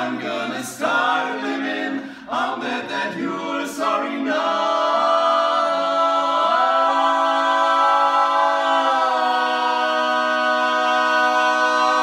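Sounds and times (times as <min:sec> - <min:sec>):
male vocal quartet singing: 0:00.0 - 0:12.0.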